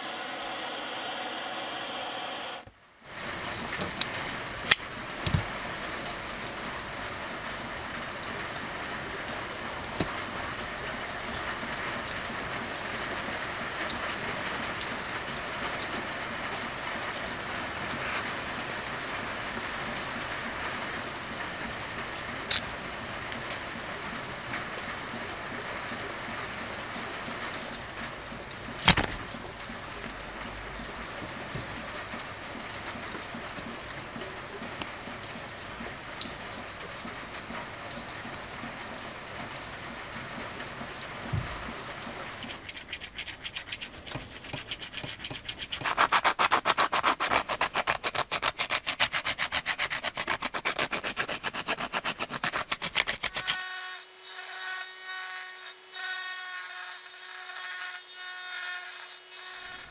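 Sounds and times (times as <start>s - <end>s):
steady hiss: 0.0s - 48.5s.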